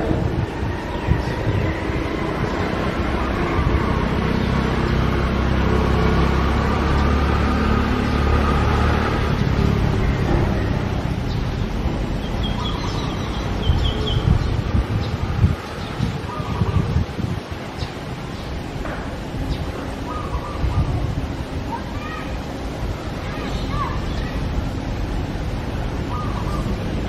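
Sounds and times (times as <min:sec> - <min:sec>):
distant road traffic rumble: 0:00.0 - 0:27.0.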